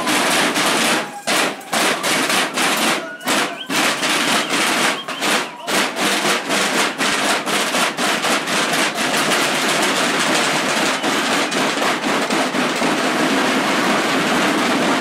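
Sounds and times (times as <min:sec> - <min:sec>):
marching snare drums: 0:00.0 - 0:15.0.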